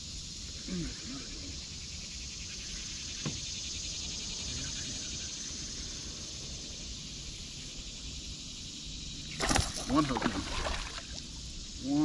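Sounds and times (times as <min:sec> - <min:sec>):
insects buzzing with pulsing trill: 0:00.0 - 0:12.0.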